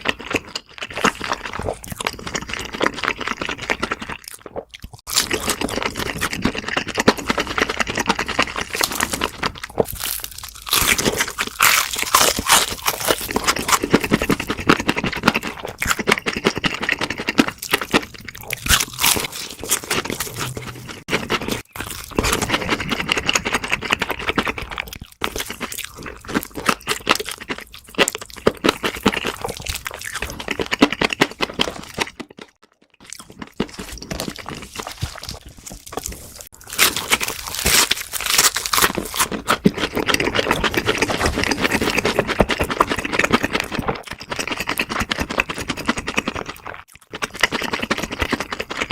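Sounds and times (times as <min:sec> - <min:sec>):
crunchy food chewing: 0:00.0 - 0:48.9.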